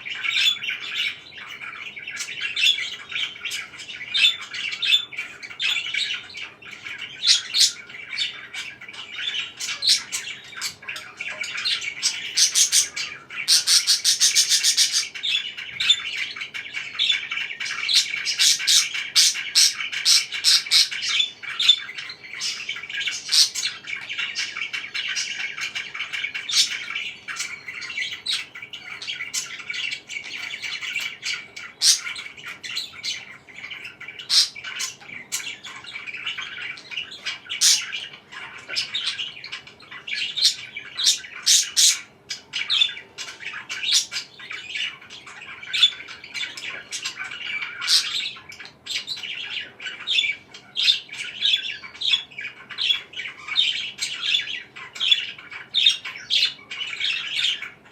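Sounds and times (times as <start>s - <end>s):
parakeets chirping and squawking: 0.0s - 57.9s.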